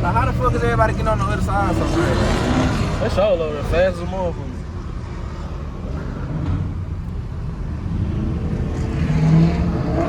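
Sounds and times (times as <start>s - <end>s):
car engines running: 0.0s - 10.0s.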